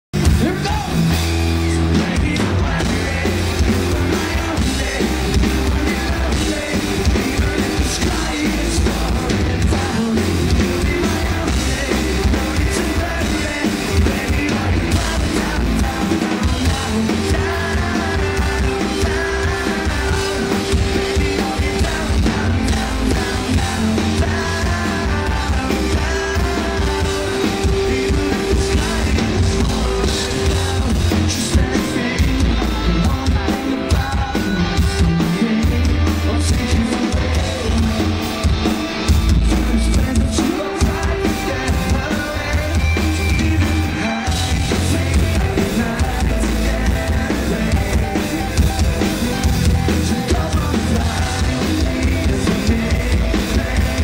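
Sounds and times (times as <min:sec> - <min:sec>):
rock band playing live: 0:00.1 - 0:54.0
person singing: 0:00.2 - 0:54.0.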